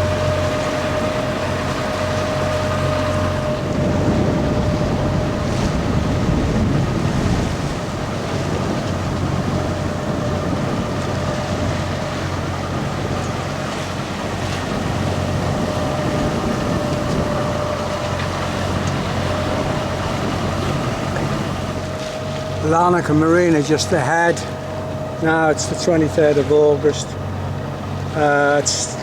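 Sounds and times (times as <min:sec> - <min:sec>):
boat engine humming: 0:00.0 - 0:29.0
wind and water rushing: 0:00.0 - 0:29.0.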